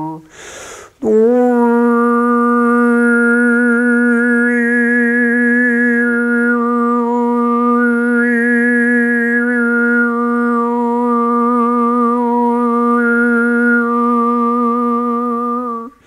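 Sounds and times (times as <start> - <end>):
man overtone singing: 0.0 - 0.3, 1.0 - 16.0.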